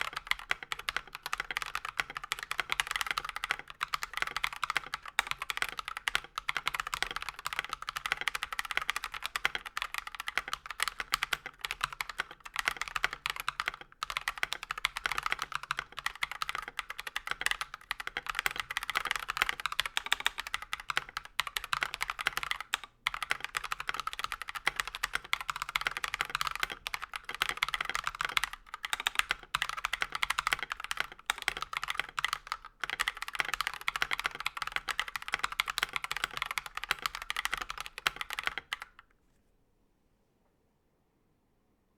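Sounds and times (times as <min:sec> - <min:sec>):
mechanical keyboard typing: 0:00.0 - 0:39.1.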